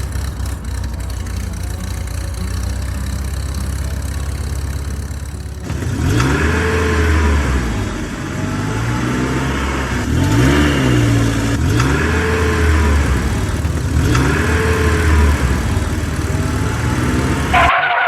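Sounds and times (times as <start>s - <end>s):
steady low hum: 0.0s - 17.6s
vehicle engine revving: 0.0s - 18.0s.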